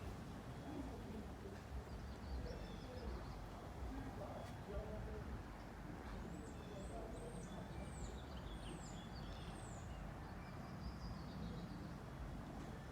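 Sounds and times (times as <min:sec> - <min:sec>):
small birds chirping: 0:00.5 - 0:04.9, 0:05.6 - 0:12.9.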